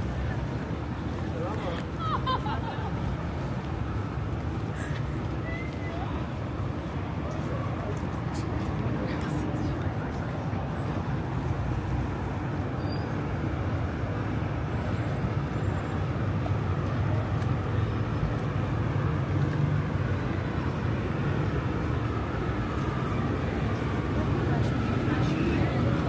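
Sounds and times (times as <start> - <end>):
passing cars: 0.0 - 26.0.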